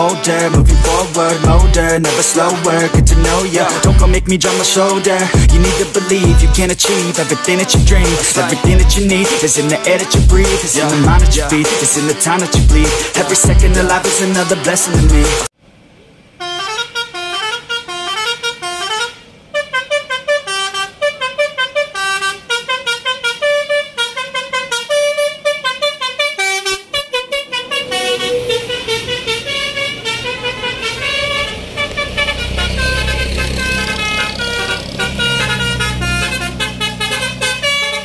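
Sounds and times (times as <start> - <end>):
multi-tone musical bus horn: 0.0 - 15.5, 16.4 - 38.0
bus engine rumble: 0.0 - 38.0.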